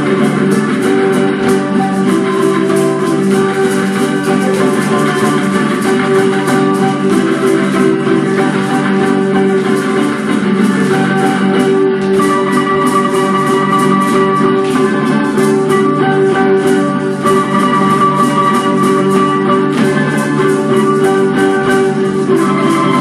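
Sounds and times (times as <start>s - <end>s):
guitar folk dance music: 0.0s - 23.0s.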